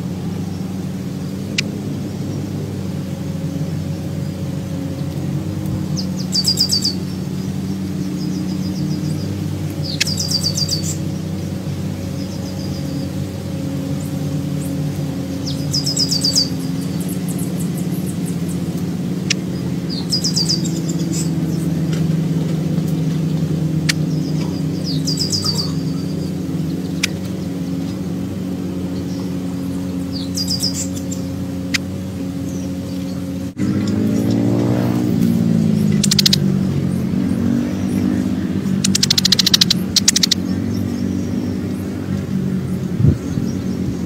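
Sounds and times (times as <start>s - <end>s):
songbird chirping: 0.0s - 44.0s
steady low hum: 0.0s - 44.0s.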